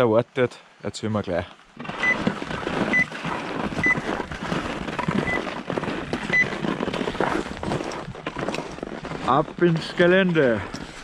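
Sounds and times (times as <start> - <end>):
gear rustling on snow: 1.8 - 11.0
poles and skis knocking: 1.8 - 11.0.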